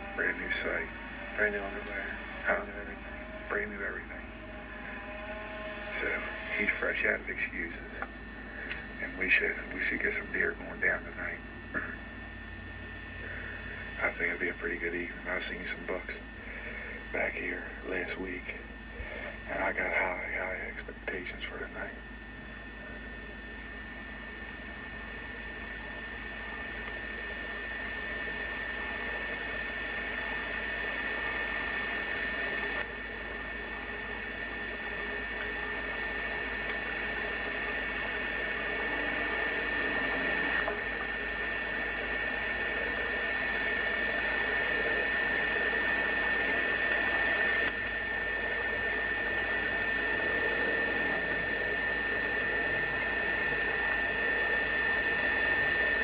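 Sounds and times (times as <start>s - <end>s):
high electronic whine with hiss: 0.0s - 56.0s.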